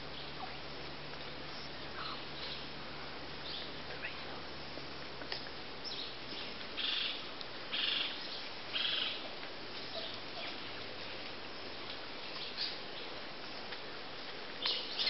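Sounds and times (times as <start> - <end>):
forest background noise: 0.0 - 15.0.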